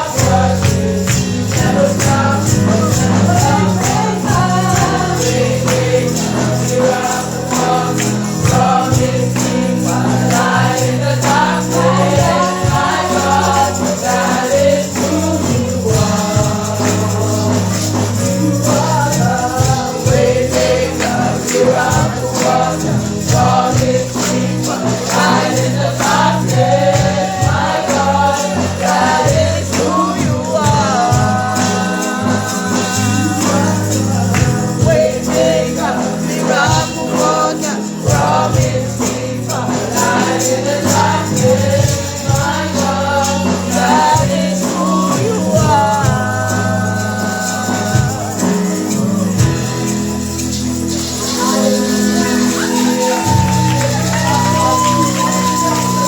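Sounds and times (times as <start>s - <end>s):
choir singing gospel music: 0.0s - 56.0s
tambourine: 0.0s - 56.0s.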